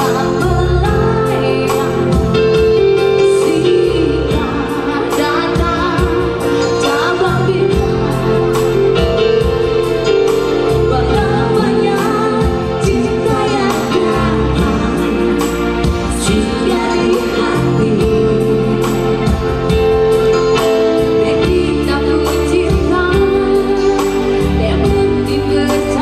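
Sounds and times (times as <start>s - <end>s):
electronic keyboard with steady beat: 0.0s - 26.0s
woman singing into a microphone: 0.0s - 26.0s.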